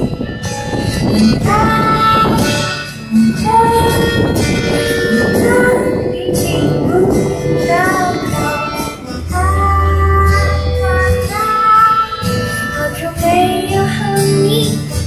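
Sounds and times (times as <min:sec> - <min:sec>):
instrumental accompaniment: 0:00.0 - 0:15.0
high voice singing held notes: 0:01.2 - 0:14.5.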